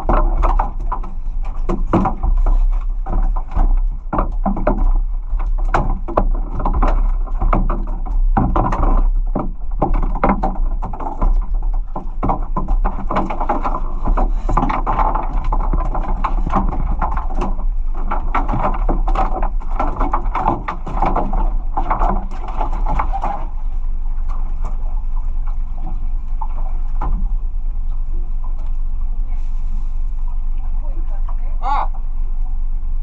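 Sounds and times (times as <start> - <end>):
water splashing and crackling: 0.0 - 31.5
low steady hum: 0.0 - 33.0.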